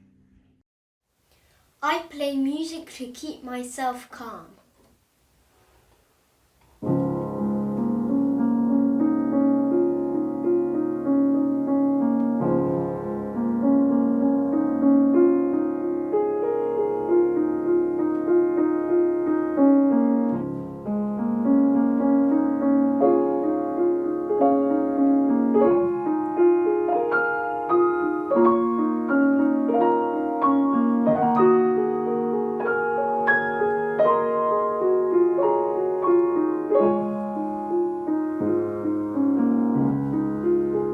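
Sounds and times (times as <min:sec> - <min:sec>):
solo piano piece: 0:06.7 - 0:40.9.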